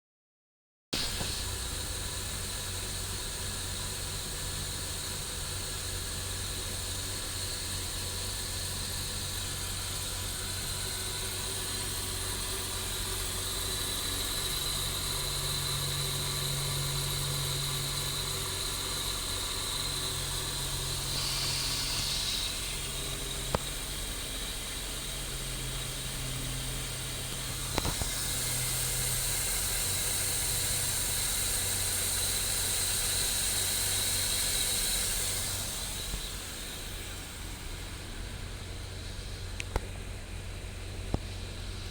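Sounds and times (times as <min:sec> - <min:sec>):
car engine idling: 0:01.0 - 0:41.9
constant high hiss: 0:01.0 - 0:41.9.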